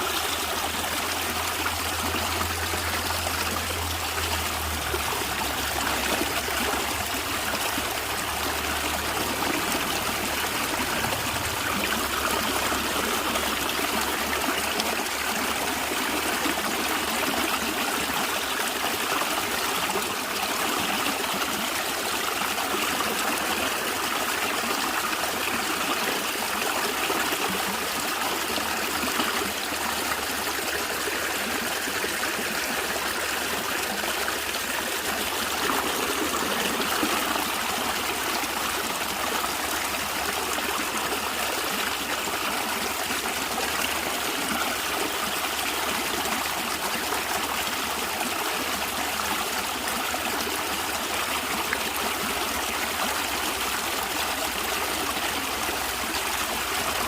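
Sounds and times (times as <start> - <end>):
stream water gurgling: 0.0 - 57.0.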